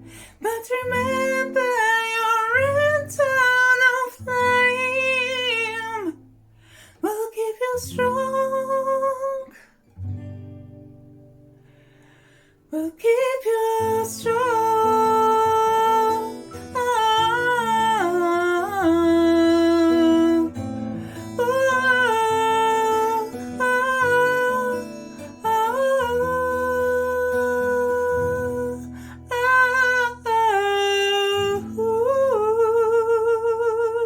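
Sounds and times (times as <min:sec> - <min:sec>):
acoustic guitar: 0:00.0 - 0:34.0.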